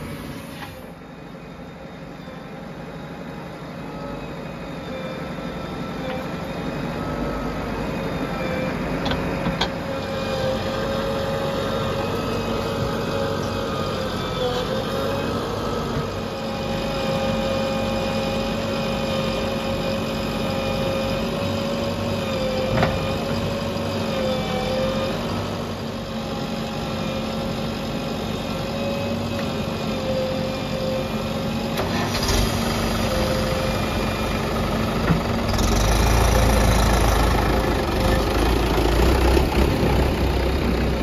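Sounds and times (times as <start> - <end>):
diesel engines running: 0.0 - 41.0.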